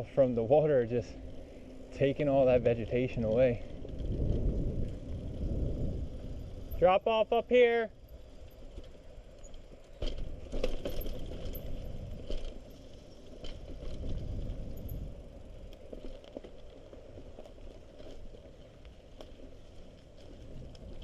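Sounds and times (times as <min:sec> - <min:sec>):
bike chain and frame rattling: 0:00.0 - 0:21.0
tyres rumbling on rough trail: 0:00.0 - 0:21.0.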